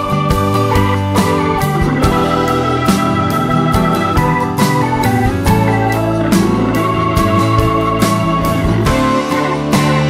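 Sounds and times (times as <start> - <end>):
organ-like keyboard chords: 0.0 - 10.0
steady beat: 0.0 - 10.0.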